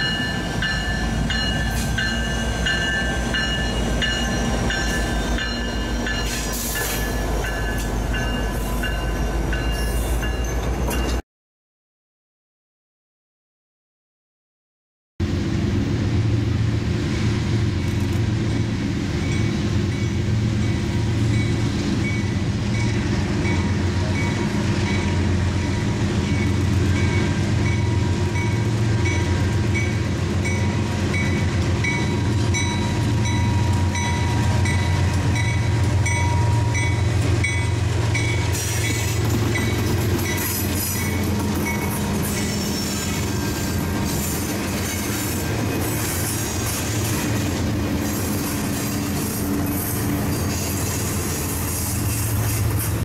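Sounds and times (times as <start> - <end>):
train wheel and rail noise: 0.0 - 11.2, 15.2 - 53.0.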